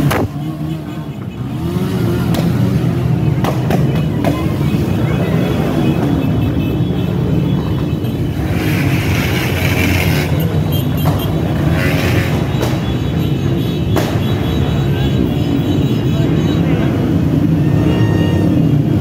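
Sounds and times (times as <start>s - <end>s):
motorcycles rumbling past: 0.0s - 19.0s.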